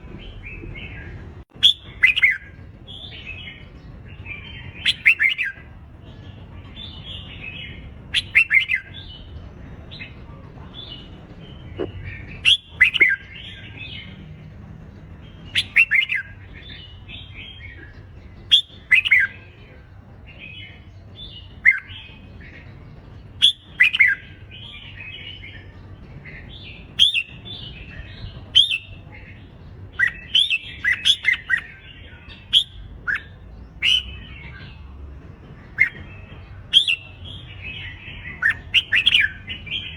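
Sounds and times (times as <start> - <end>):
soft bird chatter: 0.0 - 39.9
birds chirping song phrases: 0.1 - 39.9.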